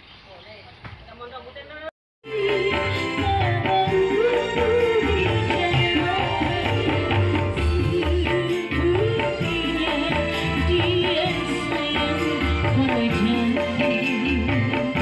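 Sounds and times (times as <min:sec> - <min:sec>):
electronic keyboard music: 0:02.2 - 0:15.0
hand-drum rhythm: 0:02.2 - 0:15.0
woman singing into a microphone: 0:02.3 - 0:15.0.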